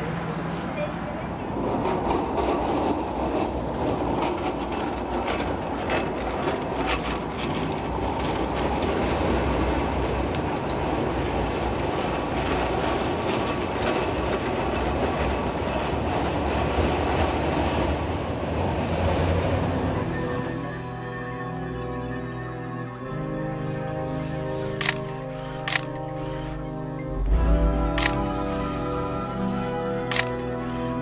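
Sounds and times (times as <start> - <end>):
tram rolling rumble: 0.0 - 31.0.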